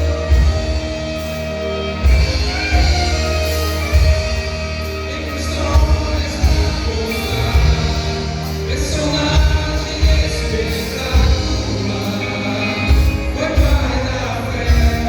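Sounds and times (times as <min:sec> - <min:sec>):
gospel band playing: 0:00.0 - 0:15.0
people singing: 0:00.0 - 0:15.0.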